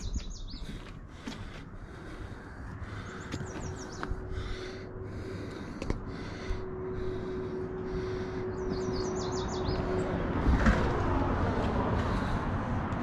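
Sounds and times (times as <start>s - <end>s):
footsteps on a path: 0.0s - 13.0s
steady hum: 0.7s - 13.0s.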